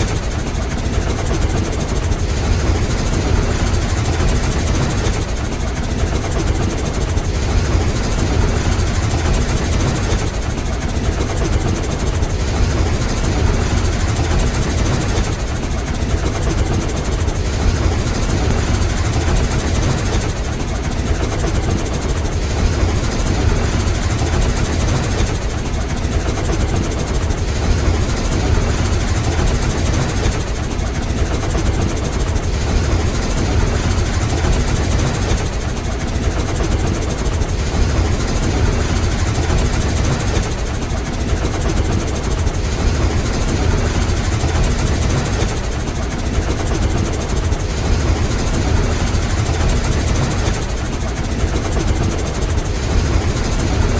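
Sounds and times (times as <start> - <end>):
steam locomotive chugging: 0.0 - 53.9.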